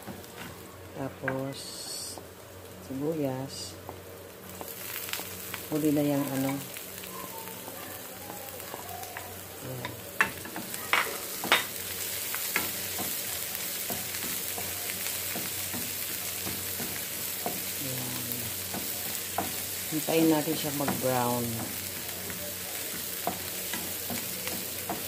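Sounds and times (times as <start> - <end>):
onion and garlic sizzling in oil: 0.0 - 25.0.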